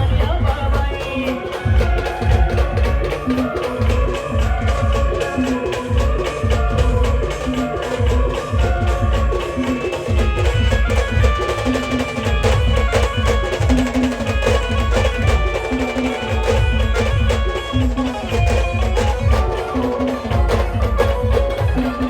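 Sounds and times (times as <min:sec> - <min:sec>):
band playing folk music: 0:00.0 - 0:22.0
heavy drum beats: 0:00.0 - 0:22.0.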